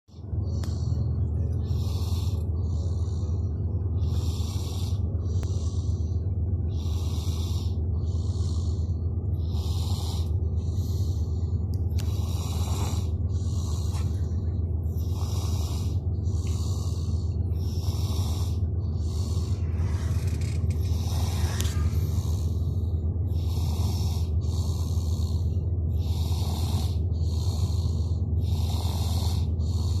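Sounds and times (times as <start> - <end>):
low hum: 0.1 - 30.0
snoring: 1.6 - 3.4, 4.0 - 6.0, 6.7 - 11.2, 12.0 - 14.2, 14.9 - 22.6, 23.3 - 30.0.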